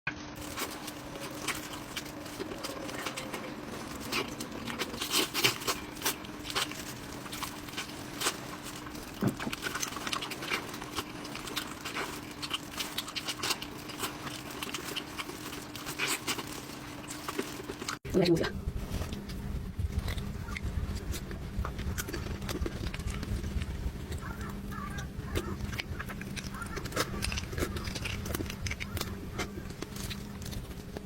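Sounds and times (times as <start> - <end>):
faint hum: 0.1 - 31.0
wet chewing and smacks: 0.4 - 18.0, 20.0 - 31.0.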